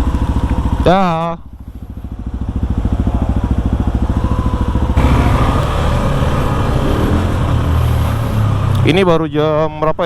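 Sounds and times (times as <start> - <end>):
motorcycle engine idling: 0.0 - 9.2
rough engine sound: 0.0 - 9.7.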